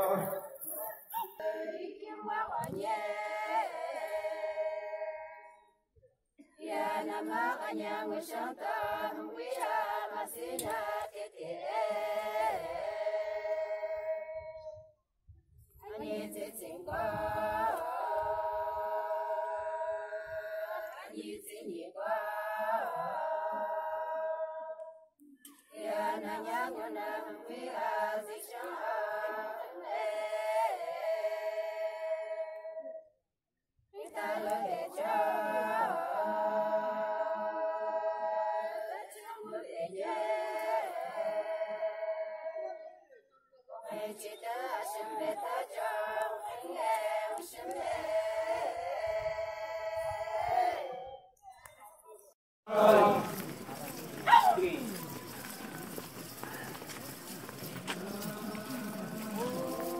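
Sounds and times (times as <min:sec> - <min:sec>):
group singing unaccompanied: 0:00.0 - 0:05.8, 0:06.4 - 0:14.9, 0:15.8 - 0:33.1, 0:34.0 - 0:51.4, 0:52.7 - 0:59.9
women's chorus singing: 0:00.0 - 0:14.9, 0:15.8 - 0:33.2, 0:34.0 - 0:51.4, 0:52.7 - 0:59.9.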